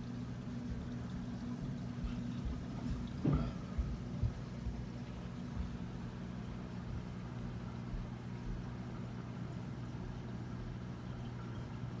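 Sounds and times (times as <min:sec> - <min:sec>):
aquarium pumps humming: 0:00.0 - 0:12.0
faint water noise: 0:00.0 - 0:12.0.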